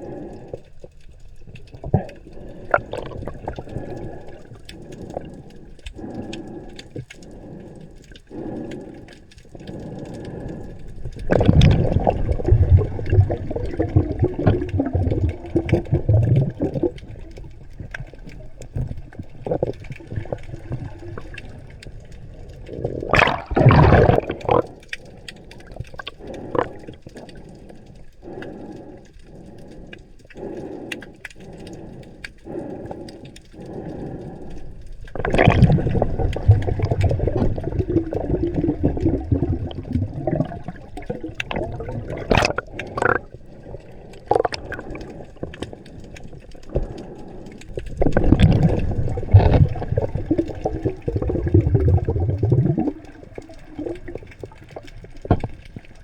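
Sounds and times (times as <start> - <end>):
sea water swishing: 0.0 - 56.0.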